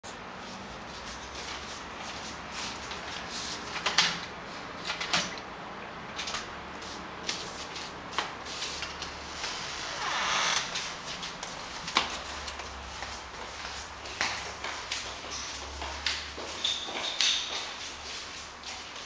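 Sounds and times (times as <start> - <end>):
faint steady hum: 0.1 - 16.4.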